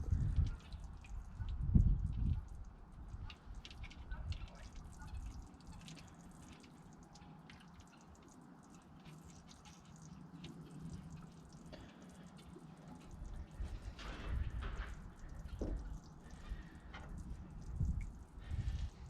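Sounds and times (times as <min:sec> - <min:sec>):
oil dripping into bucket: 0:00.0 - 0:19.0.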